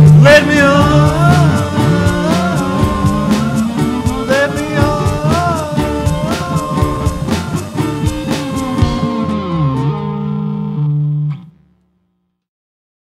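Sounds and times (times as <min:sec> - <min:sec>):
indie rock song with guitar: 0:00.0 - 0:10.6.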